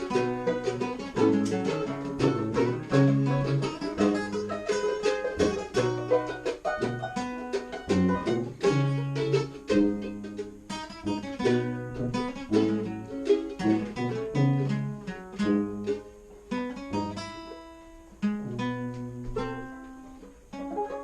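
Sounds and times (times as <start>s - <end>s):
plucked guitar-like notes: 0.0s - 21.0s.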